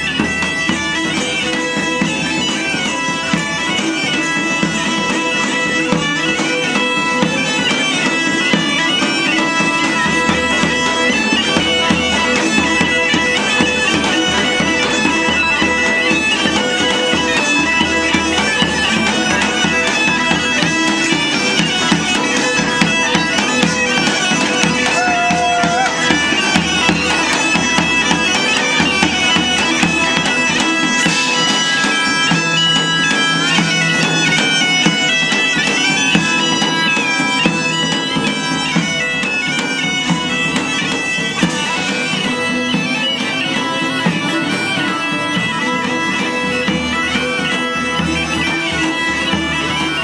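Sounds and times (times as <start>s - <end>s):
bagpipes playing a tune: 0.0s - 50.0s.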